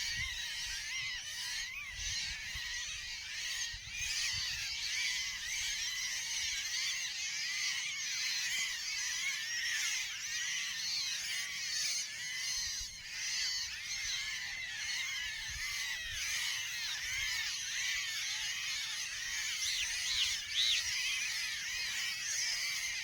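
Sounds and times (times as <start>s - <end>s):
chorus of birds chirping: 0.0s - 23.0s.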